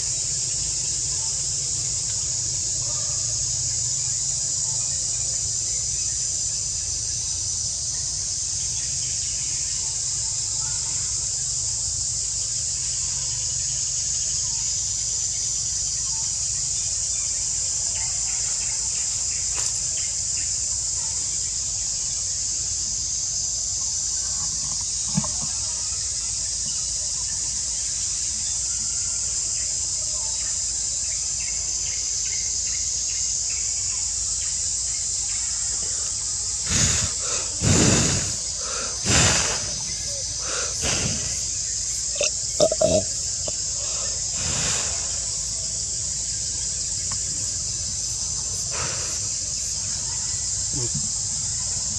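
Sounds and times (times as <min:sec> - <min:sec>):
insects droning: 0:00.0 - 0:51.9.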